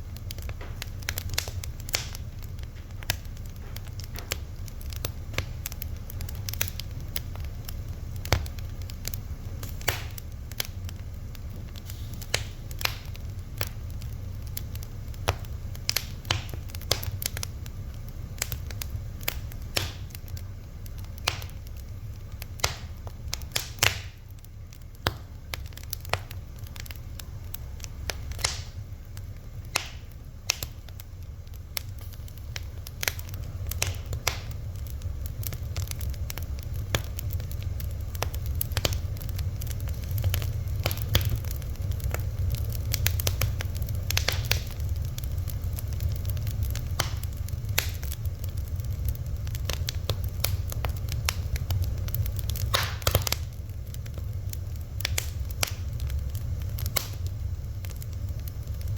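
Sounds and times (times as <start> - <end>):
fire crackling and popping: 0.0 - 58.9
low rumble of flame: 0.0 - 58.9.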